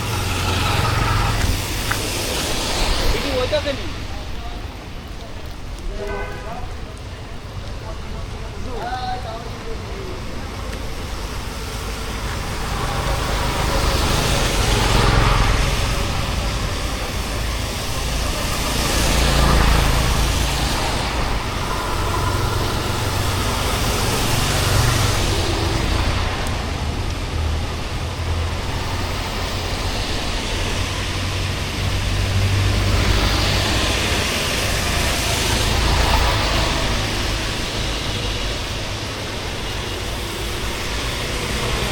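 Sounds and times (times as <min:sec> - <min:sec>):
rain hissing: 0:00.0 - 0:06.0, 0:06.6 - 0:41.9
vehicles passing on wet street: 0:00.0 - 0:41.9.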